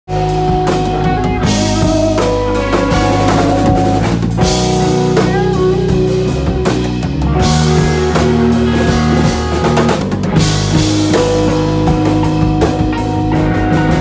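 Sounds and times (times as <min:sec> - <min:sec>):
bass guitar: 0:00.1 - 0:14.0
drum kit and cymbals: 0:00.1 - 0:14.0
electric guitars: 0:00.1 - 0:14.0.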